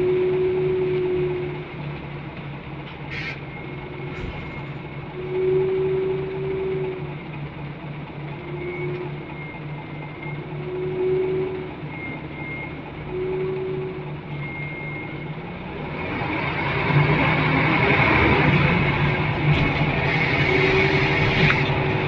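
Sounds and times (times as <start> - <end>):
bus engine hum: 0.0 - 22.0
road noise: 0.0 - 22.0
whirring whine: 0.0 - 22.0.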